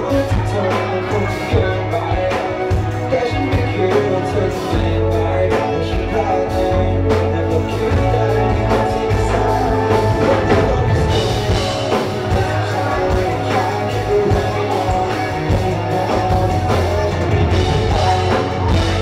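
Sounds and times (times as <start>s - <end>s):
live rock band music: 0.0s - 19.0s.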